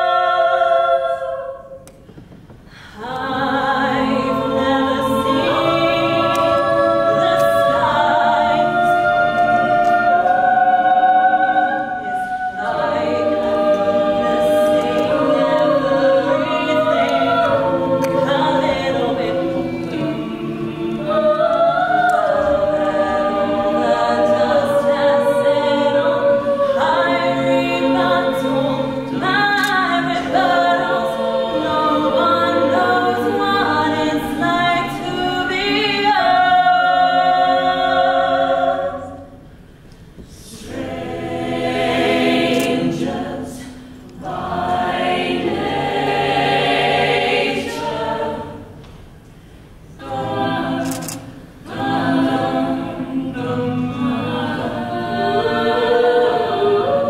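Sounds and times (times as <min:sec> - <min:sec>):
a cappella group singing in harmony: 0:00.0 - 0:57.0.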